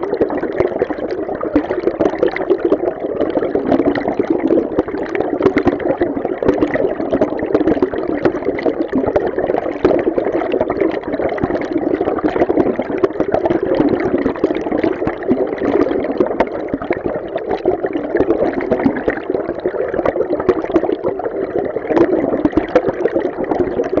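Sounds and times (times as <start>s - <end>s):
underwater river rushing: 0.0s - 24.0s.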